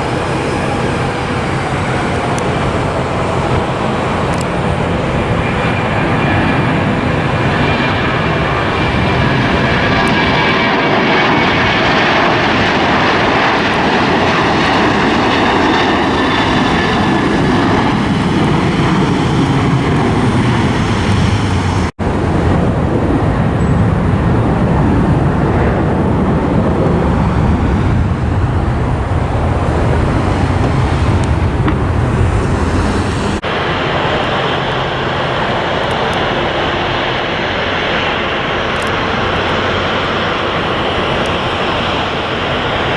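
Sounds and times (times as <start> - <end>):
airliner engine noise: 0.0 - 42.9
high engine whine: 0.0 - 42.9.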